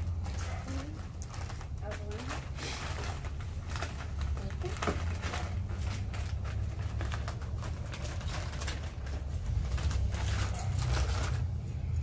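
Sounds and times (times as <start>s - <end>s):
chip bag crinkling: 0.0s - 12.0s.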